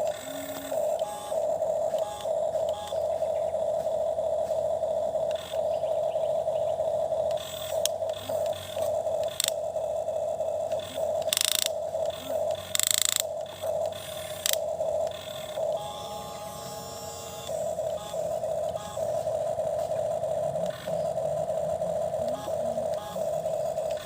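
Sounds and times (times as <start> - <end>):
small electric motor whining: 0.0 - 24.0.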